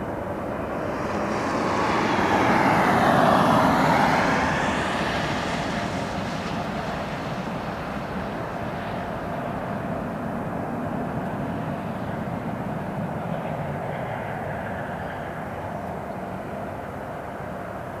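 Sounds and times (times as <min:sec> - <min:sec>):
jet engines rumbling at climb: 0:00.0 - 0:18.0.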